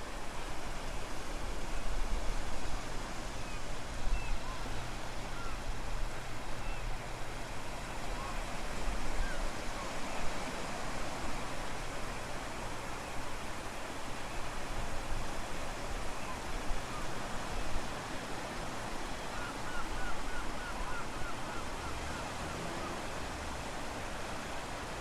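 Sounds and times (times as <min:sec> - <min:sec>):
ocean surf rushing: 0:00.0 - 0:25.0.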